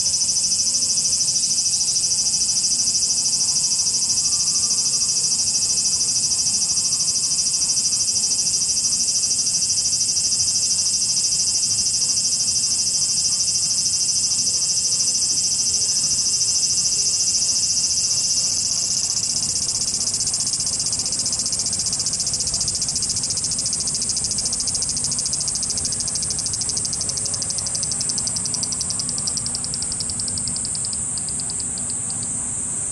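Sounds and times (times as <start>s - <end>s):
cicadas buzzing: 0.0s - 32.9s.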